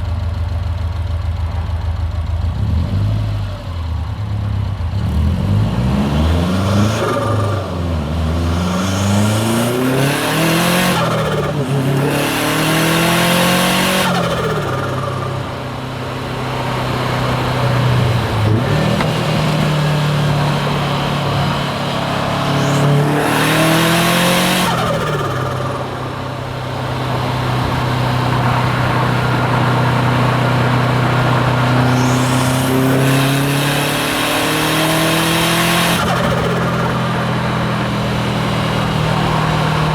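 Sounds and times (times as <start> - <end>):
turbocharged car engine accelerating: 4.5 - 39.9.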